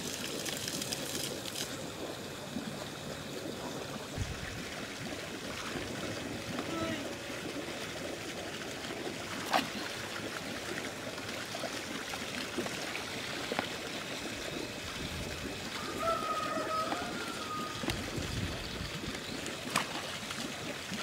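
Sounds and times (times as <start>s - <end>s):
water running and splashing: 0.0s - 21.0s.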